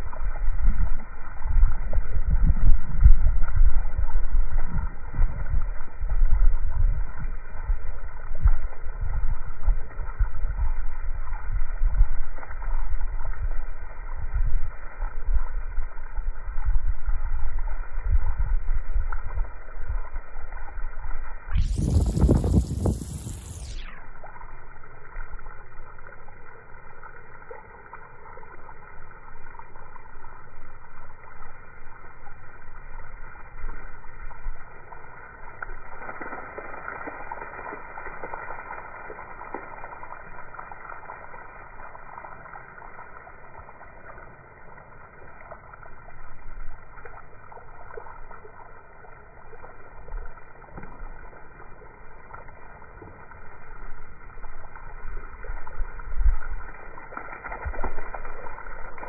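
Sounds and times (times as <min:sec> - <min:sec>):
hose water spraying on grass: 0:00.0 - 0:59.0.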